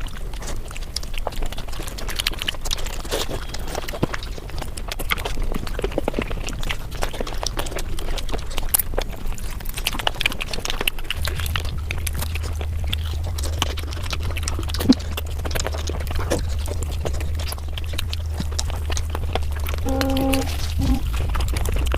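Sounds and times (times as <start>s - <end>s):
rapid chewing and crunching: 0.0s - 21.9s
steady low hum: 2.4s - 21.9s.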